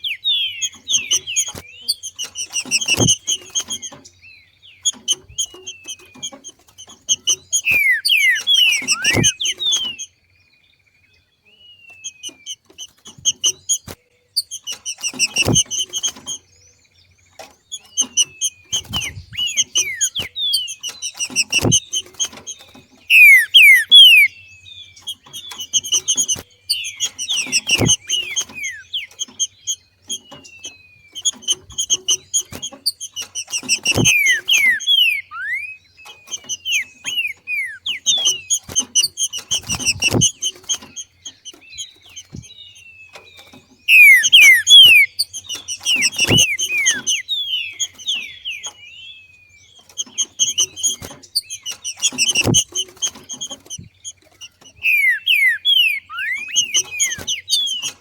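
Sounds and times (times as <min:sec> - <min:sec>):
bird chattering and whistling: 0:00.0 - 0:10.2, 0:11.5 - 0:16.5, 0:17.3 - 0:58.0.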